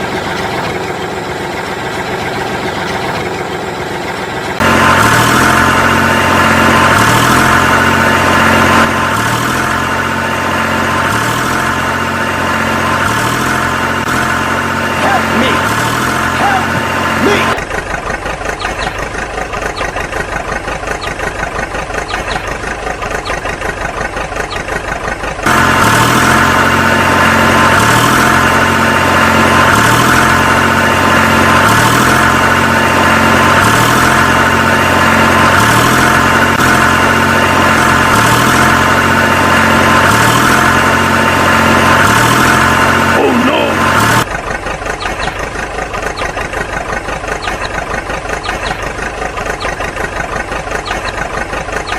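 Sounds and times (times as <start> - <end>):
engine idling: 0.0 - 51.9
louder throbbing engine: 0.0 - 51.9.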